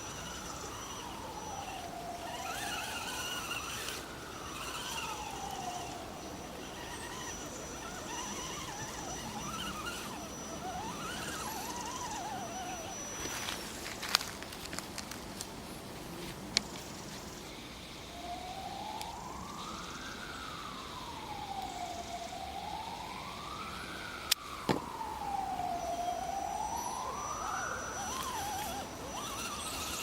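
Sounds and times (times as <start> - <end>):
siren wailing up and down: 0.0 - 14.3, 18.2 - 30.0.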